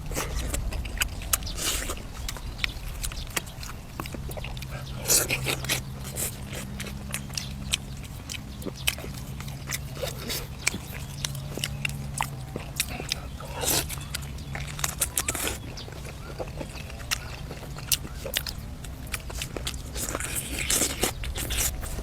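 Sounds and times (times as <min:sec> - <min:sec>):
person chewing wetly: 0:00.0 - 0:22.0.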